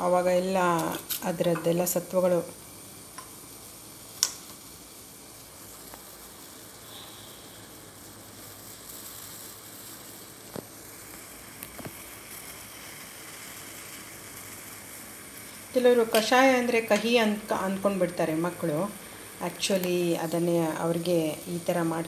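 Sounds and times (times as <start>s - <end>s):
milk heating with soft hiss: 0.0s - 22.0s.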